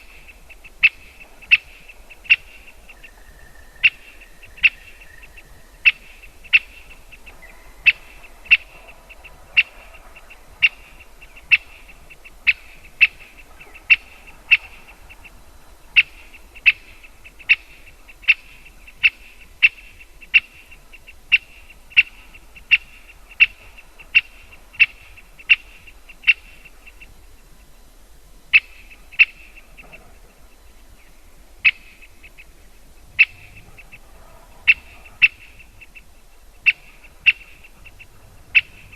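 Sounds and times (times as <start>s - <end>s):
woodpecker sharp kik calls: 0.0s - 27.7s, 28.5s - 38.9s.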